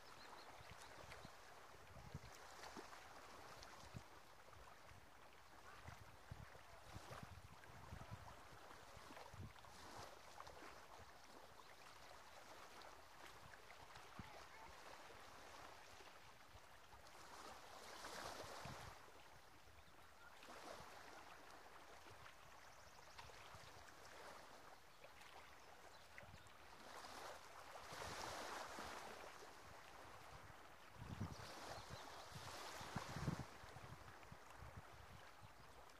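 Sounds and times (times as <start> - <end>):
small waves washing on shore: 0.0 - 35.9.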